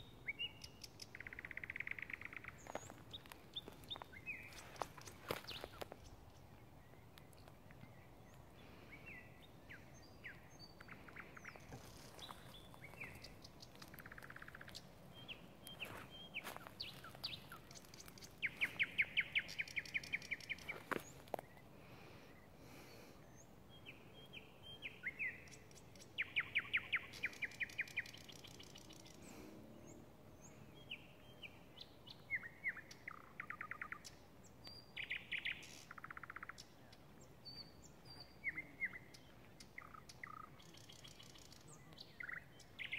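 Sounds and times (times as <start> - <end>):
nightingale singing: 0.0 - 21.6, 23.2 - 29.3, 29.9 - 42.9.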